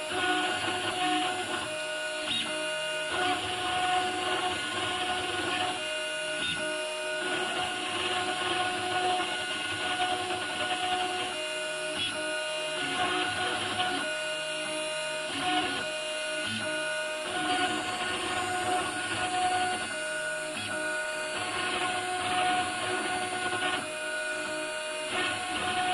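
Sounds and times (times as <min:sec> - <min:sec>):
router cutting hiss: 0:00.0 - 0:25.9.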